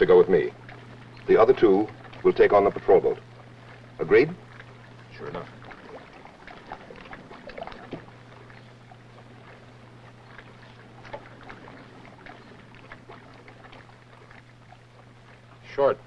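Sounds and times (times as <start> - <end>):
low steady hum: 0.0 - 16.0
soft water splashes: 0.0 - 16.0.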